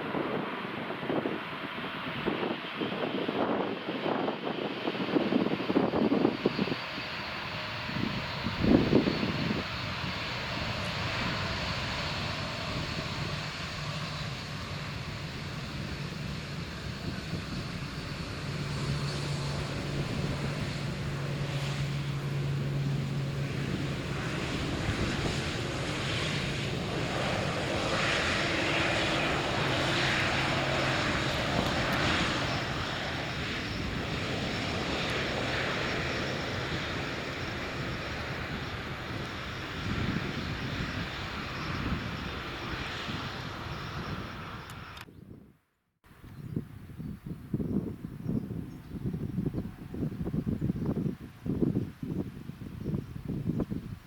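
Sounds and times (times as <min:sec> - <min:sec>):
jet engines roaring: 0:00.0 - 0:45.1.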